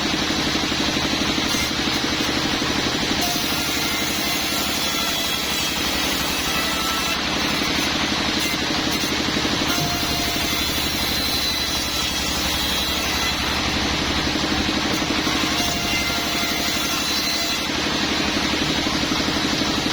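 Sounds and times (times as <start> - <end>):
sawmill machinery running: 0.0 - 19.9.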